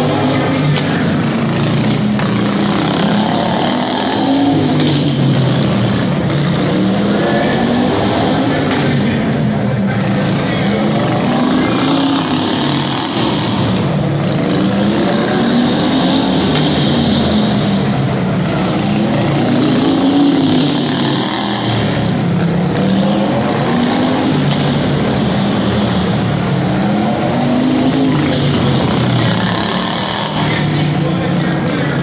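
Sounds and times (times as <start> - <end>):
racing vehicle engines: 0.0 - 32.0.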